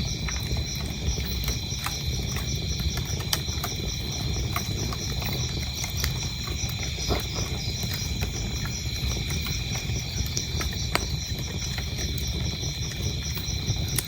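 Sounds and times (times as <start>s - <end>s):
crickets chirping: 0.0s - 14.0s
wood fire crackling: 0.0s - 14.0s.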